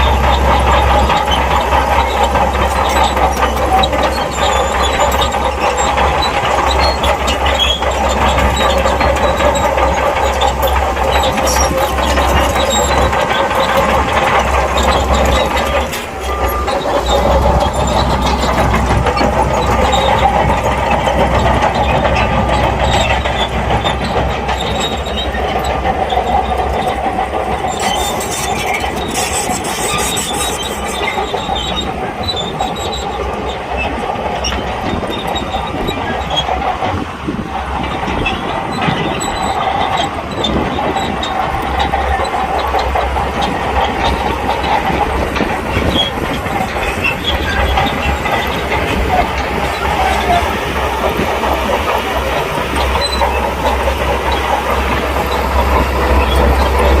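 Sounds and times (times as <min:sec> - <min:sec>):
bulldozer diesel engine: 0:00.0 - 0:57.0
steel tracks squealing and clanking: 0:00.0 - 0:57.0.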